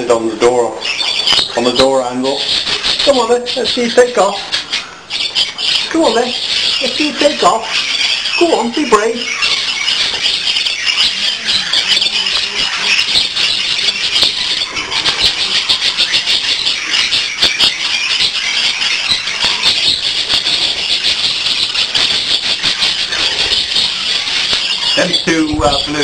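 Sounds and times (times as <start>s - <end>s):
budgerigars chattering: 0.0s - 26.0s.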